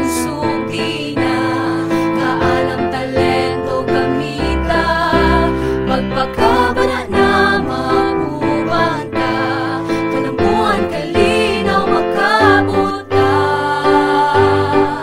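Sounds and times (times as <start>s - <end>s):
instrumental backing track: 0.0s - 15.0s
voices singing a jingle: 0.0s - 15.0s.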